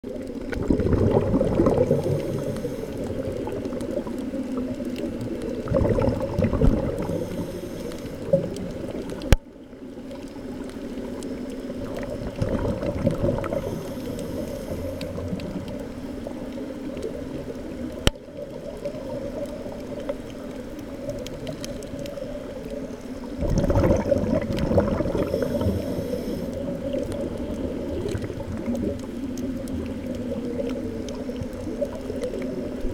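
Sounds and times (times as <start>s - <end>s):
underwater rushing and bubbling: 0.0s - 32.9s.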